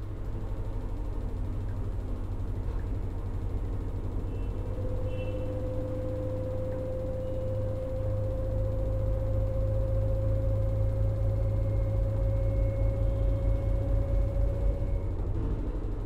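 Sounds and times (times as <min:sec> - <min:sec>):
washing machine motor whine: 0:00.0 - 0:16.0.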